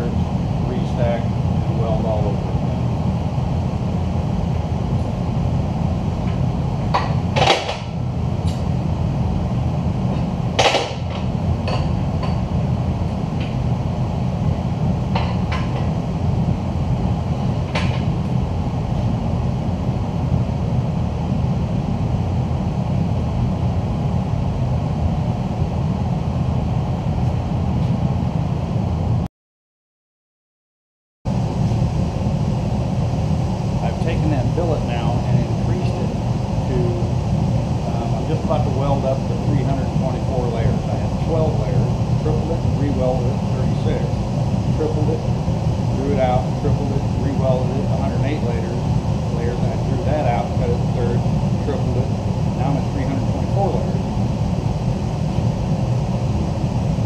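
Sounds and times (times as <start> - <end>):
hydraulic press power unit drone: 0.0 - 29.3, 31.3 - 57.0.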